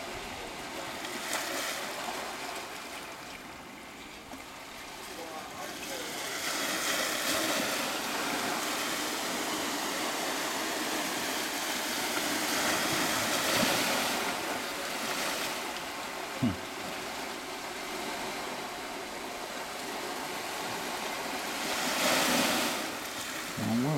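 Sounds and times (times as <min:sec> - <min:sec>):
sea waves: 0:00.0 - 0:23.9
wind: 0:00.0 - 0:23.9.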